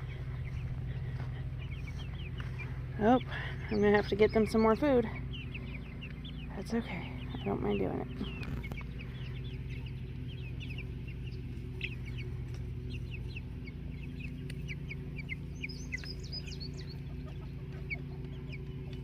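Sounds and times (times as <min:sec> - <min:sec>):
chickens peeping and clucking: 0:00.0 - 0:19.0
low hum: 0:00.0 - 0:19.0.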